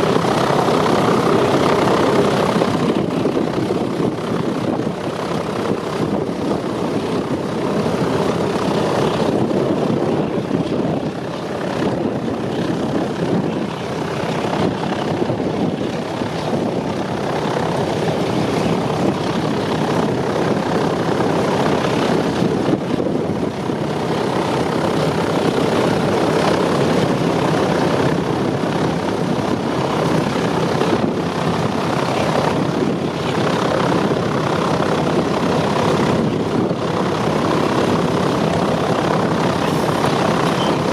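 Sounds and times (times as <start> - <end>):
propeller engines rumbling: 0.0 - 40.9.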